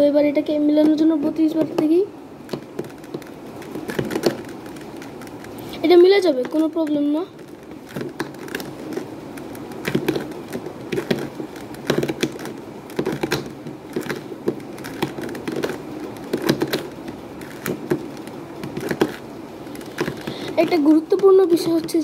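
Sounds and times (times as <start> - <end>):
puzzle cube clicking: 0.8 - 22.0.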